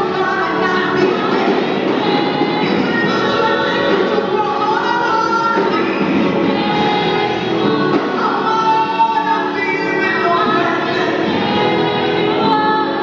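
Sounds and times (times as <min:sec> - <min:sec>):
amplified music: 0:00.0 - 0:13.0
congregation singing gospel: 0:00.0 - 0:13.0.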